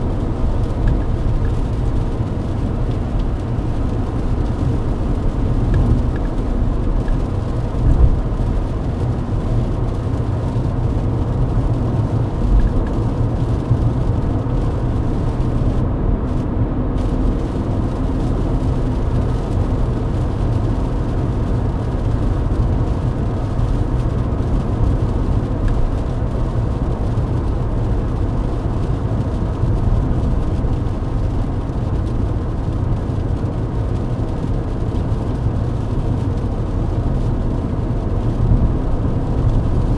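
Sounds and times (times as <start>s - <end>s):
car cabin road noise: 0.0s - 39.9s.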